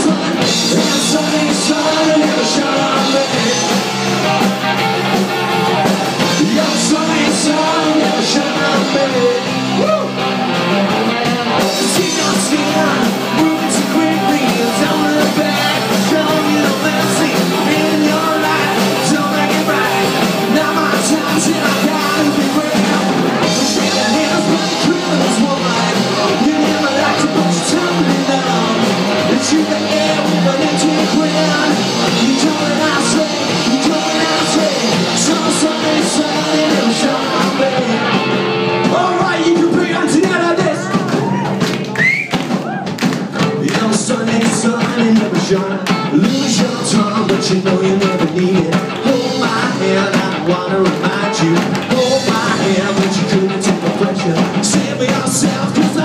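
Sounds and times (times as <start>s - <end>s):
drums and cymbals: 0.0s - 56.0s
person singing: 0.0s - 56.0s
rock band playing live: 0.0s - 56.0s.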